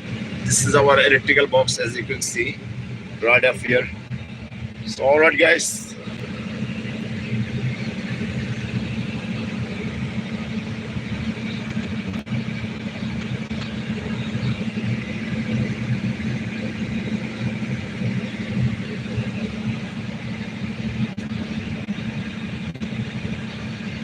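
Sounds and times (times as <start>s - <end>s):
machinery low drone: 0.0s - 24.0s.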